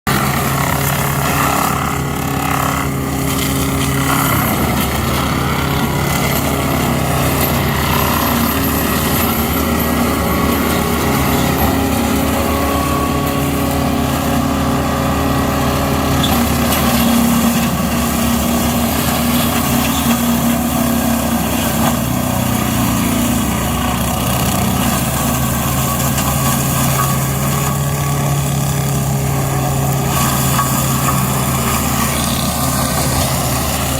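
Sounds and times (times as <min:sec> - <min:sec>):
tractor diesel engine droning: 0:00.1 - 0:33.9.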